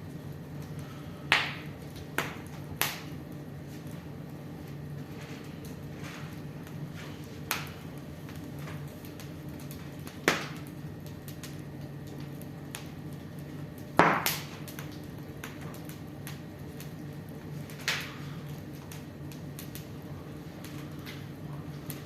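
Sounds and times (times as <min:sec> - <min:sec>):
steady low hum: 0:00.0 - 0:22.0
wood fire crackling: 0:00.0 - 0:22.0
sharp pops of fire: 0:00.8 - 0:19.9.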